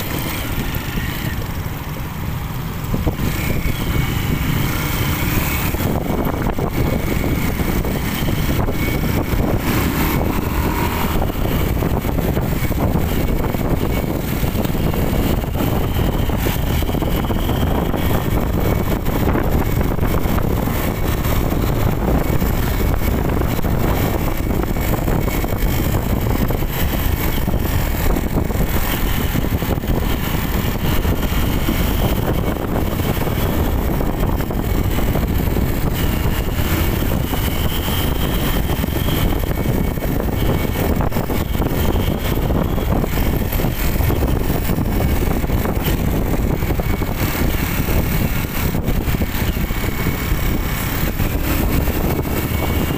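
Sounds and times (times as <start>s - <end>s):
motorcycle engine: 0.0s - 52.9s
wind on microphone: 0.0s - 52.9s.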